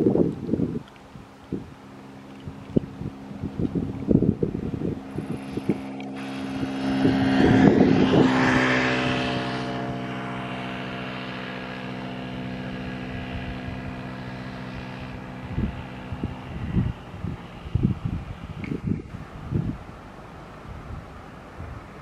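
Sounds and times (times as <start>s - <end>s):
wind buffeting microphone: 0.0s - 22.0s
jet engines humming: 1.0s - 22.0s.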